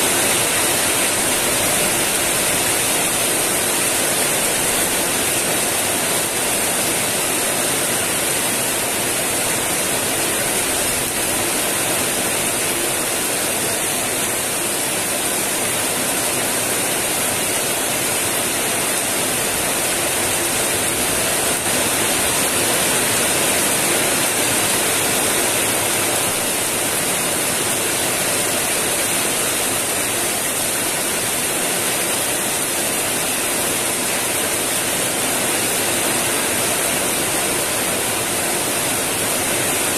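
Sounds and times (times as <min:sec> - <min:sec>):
heavy rain on wet ground: 0:00.0 - 0:39.9.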